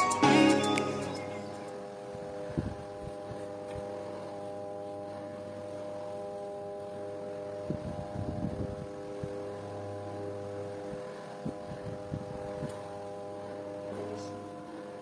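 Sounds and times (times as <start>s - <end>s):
steady hum of held tones: 0.0s - 15.0s.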